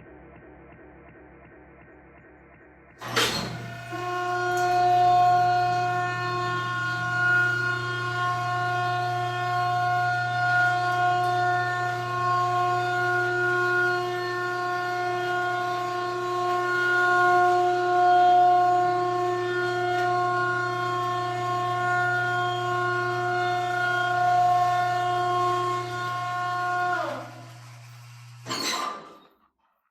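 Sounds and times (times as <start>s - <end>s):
horn-like synth note: 3.0s - 28.0s.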